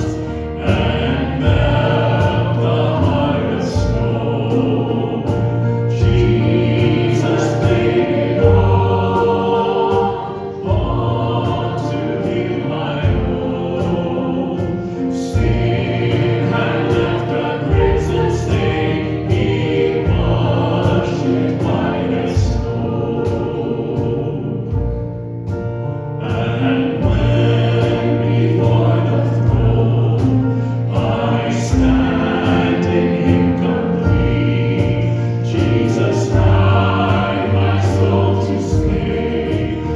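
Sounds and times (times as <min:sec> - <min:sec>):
congregation singing a hymn: 0:00.0 - 0:39.9
instrumental accompaniment: 0:00.0 - 0:39.9.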